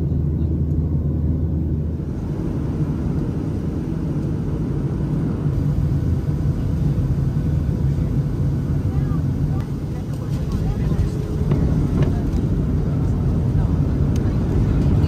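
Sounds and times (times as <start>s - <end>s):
jet airliner cabin rumble: 0.0s - 15.0s.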